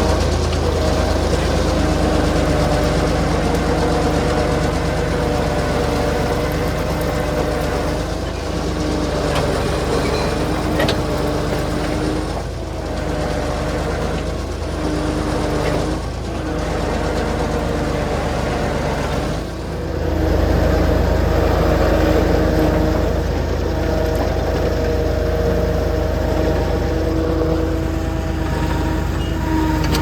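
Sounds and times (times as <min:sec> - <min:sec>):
engine humming steadily: 0:00.0 - 0:30.0.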